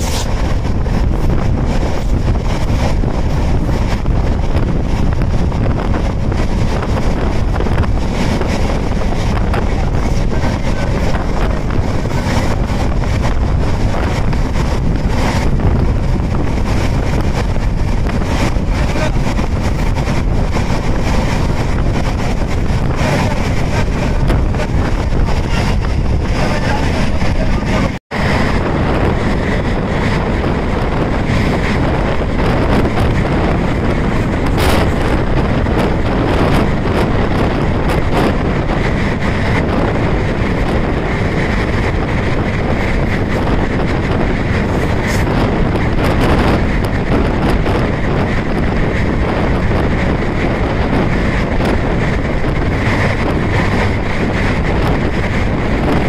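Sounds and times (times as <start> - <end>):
passenger train running: 0.0 - 56.0
wind buffeting microphone: 0.0 - 56.0.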